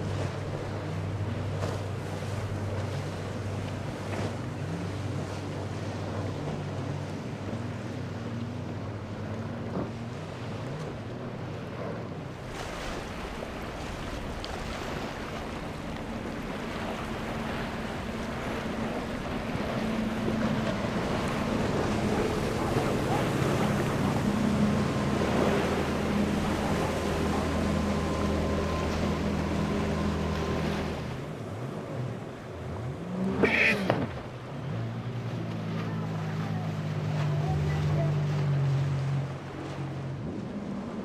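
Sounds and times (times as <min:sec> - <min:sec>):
outboard motors running: 0:00.0 - 0:41.0
waves splashing: 0:00.0 - 0:41.0.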